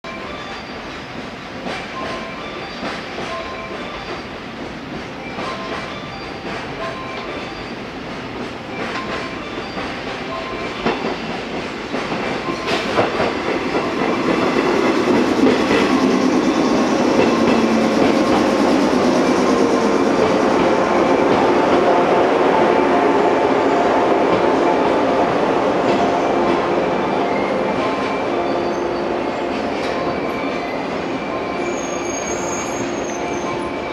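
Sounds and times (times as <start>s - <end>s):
train wheel and motor noise: 0.1s - 33.9s.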